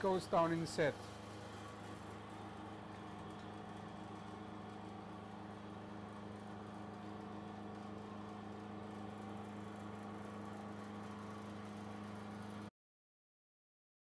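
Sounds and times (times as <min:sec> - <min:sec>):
milling machine cutting metal: 0:00.0 - 0:12.5.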